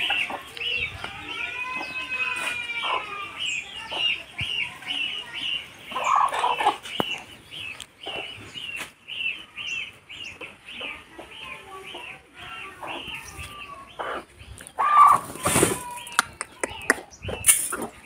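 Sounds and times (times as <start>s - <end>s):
hen clucking and calling: 0.0s - 18.0s.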